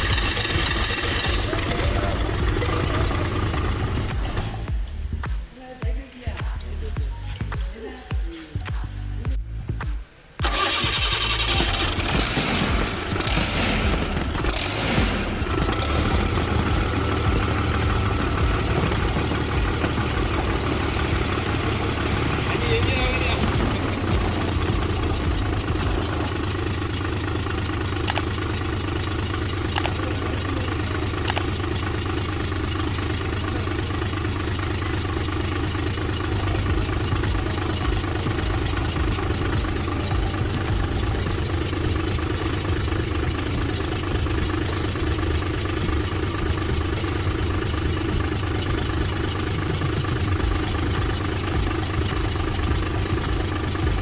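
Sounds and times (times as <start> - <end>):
bus diesel engine idling: 0.0 - 5.3, 10.4 - 54.0.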